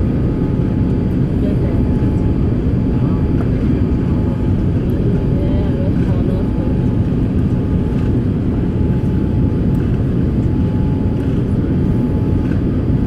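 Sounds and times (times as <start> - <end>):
faint steady whine: 0.0 - 13.0
jet engines roaring in cabin: 0.0 - 13.0.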